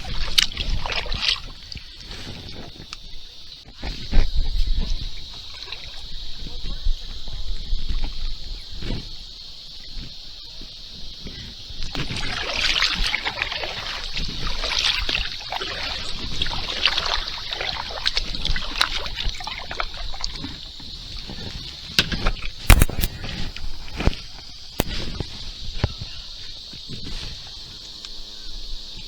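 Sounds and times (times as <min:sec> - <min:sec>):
paddle splashing water: 0:00.0 - 0:27.8.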